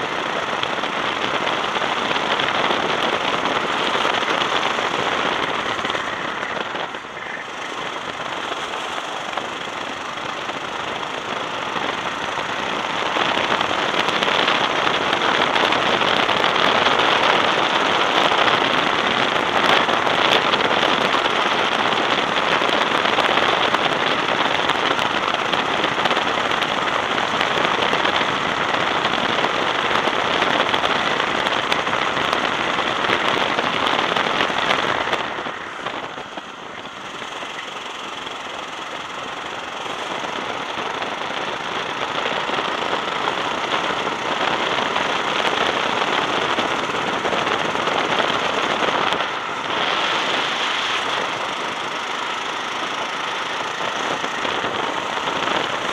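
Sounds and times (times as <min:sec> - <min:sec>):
go-kart engine running hard: 0:00.0 - 0:55.9
wind noise: 0:00.0 - 0:55.9.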